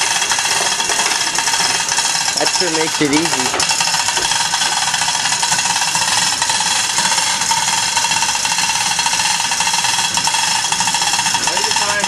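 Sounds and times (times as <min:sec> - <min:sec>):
chain hoist running: 0:00.0 - 0:12.0.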